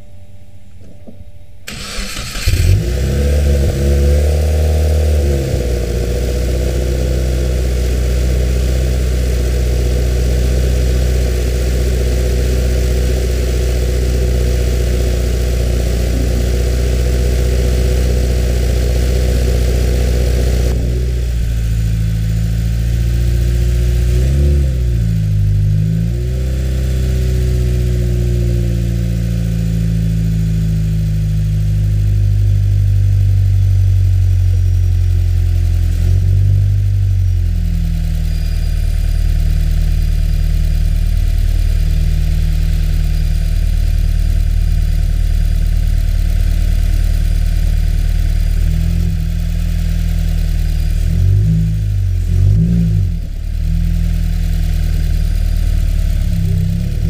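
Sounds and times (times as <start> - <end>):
car engine idling: 1.6 - 57.0.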